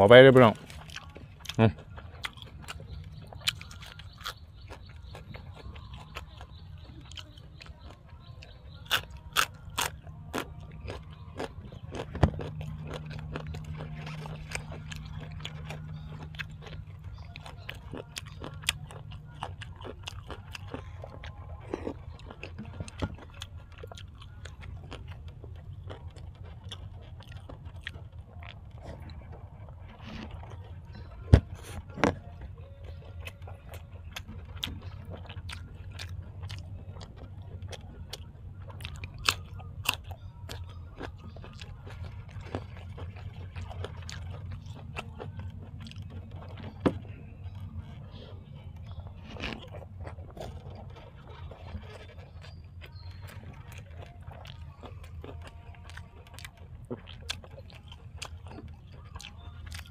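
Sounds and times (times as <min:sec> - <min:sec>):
steady low hum: 0:00.0 - 0:59.9
person chewing and biting food: 0:00.5 - 0:59.9.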